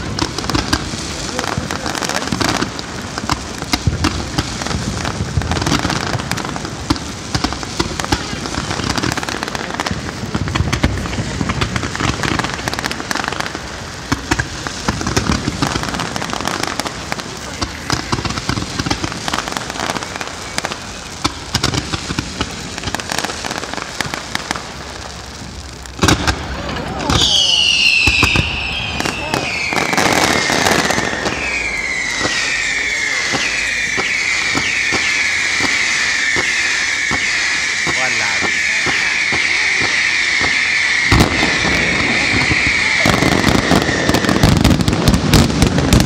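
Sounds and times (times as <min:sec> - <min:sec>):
fireworks cracking and banging: 0:00.0 - 0:46.0.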